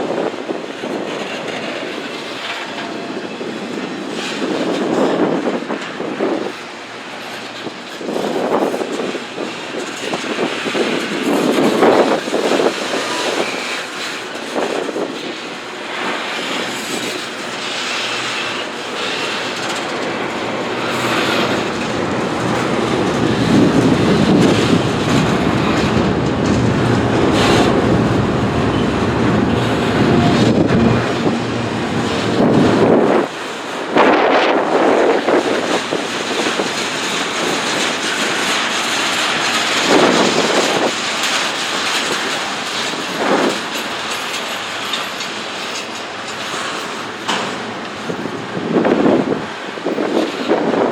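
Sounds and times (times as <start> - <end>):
train wheels clattering on rails: 0.0 - 50.9.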